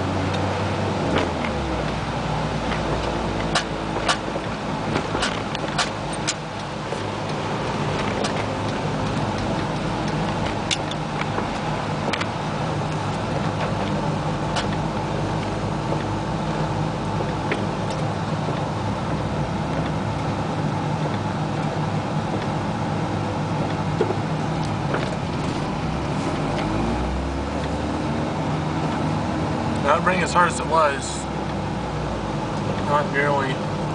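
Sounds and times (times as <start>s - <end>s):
car engine running: 0.0s - 33.9s
tyre and road noise: 0.0s - 33.9s.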